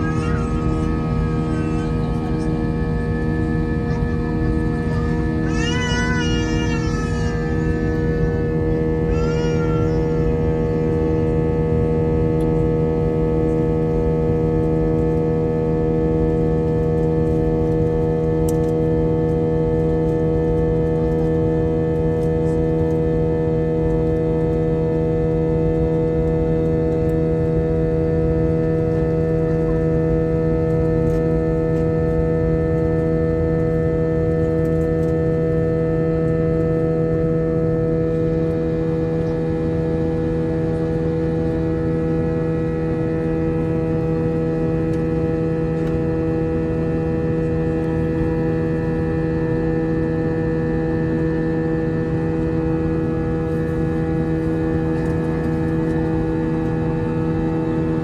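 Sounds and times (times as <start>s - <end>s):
airliner engines droning in cabin: 0.0s - 58.0s.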